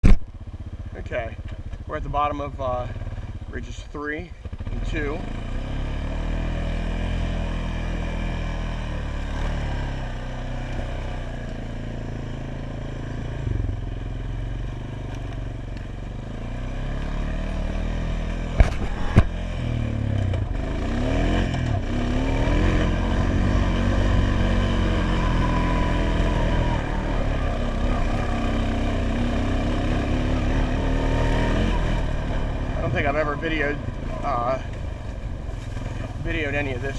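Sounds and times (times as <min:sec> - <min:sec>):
atv engine running: 0:00.0 - 0:36.9.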